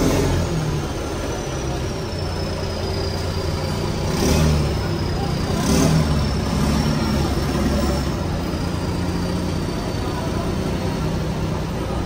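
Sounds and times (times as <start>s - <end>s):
diesel bus engines idling: 0.0s - 12.0s.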